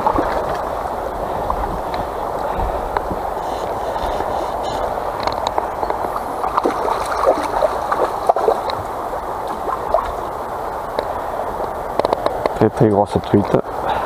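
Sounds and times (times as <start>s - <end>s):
small water splashes: 0.0s - 12.4s
river water gurgling over rocks: 0.0s - 14.0s.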